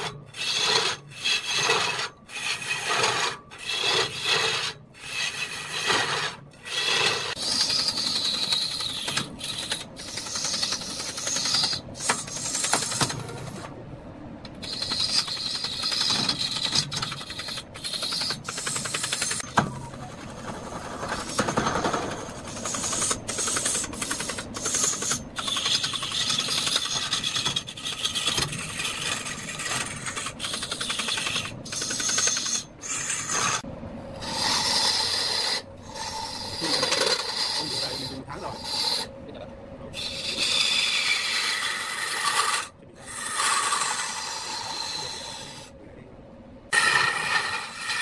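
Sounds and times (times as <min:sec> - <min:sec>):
lathe tool scraping wood: 0:00.0 - 0:13.7, 0:14.6 - 0:39.2, 0:40.0 - 0:45.7, 0:46.7 - 0:48.0.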